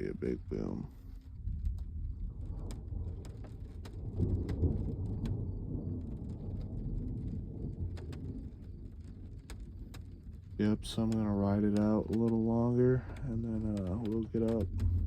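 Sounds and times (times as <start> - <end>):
raindrops ticking on truck: 0.0 - 15.0
thunder rumbling: 0.0 - 15.0.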